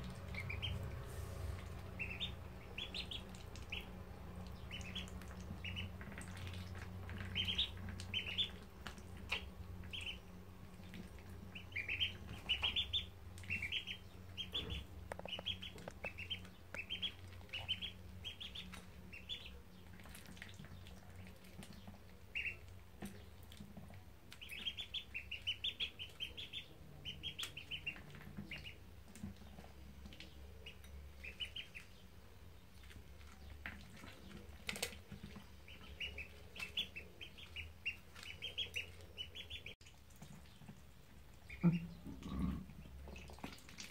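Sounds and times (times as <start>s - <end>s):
ducklings peeping: 0.0s - 43.9s.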